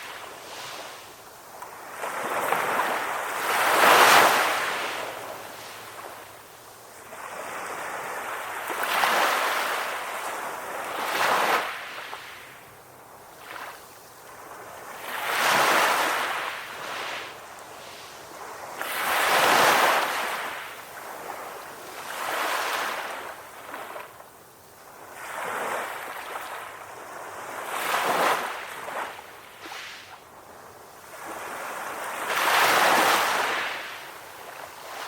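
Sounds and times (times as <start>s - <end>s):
small waves breaking on beach: 0.0s - 35.0s.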